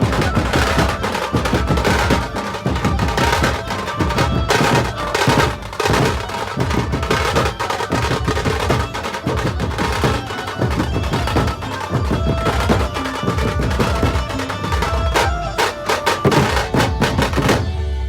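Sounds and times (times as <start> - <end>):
loud music with fast drumming: 0.0 - 17.6.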